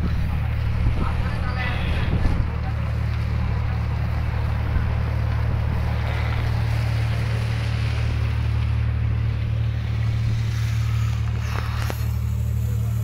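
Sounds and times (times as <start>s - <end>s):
ship engine humming: 0.0s - 13.0s
wind and sea noise: 0.0s - 13.0s.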